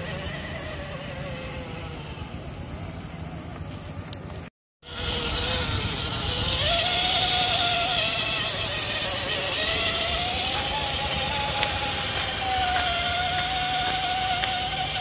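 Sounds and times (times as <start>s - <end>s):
toy truck electric motor whining: 0.0s - 4.1s, 4.8s - 15.0s.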